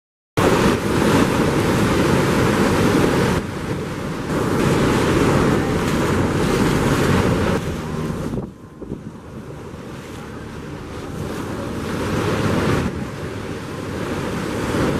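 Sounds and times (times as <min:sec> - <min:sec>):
waterfall roar: 0:00.4 - 0:14.9
wind buffeting the microphone: 0:00.4 - 0:14.9.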